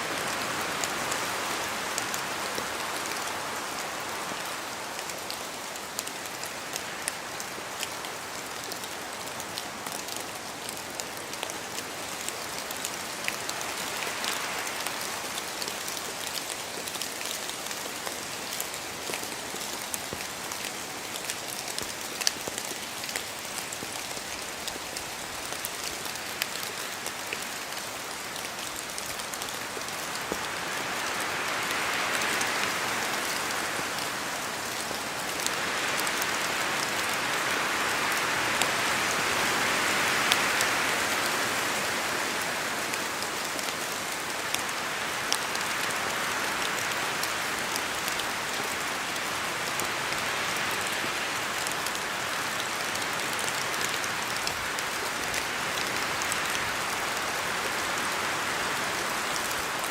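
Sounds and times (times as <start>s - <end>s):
steady rain in forest: 0.0s - 59.9s
wind gusts through trees: 0.0s - 59.9s.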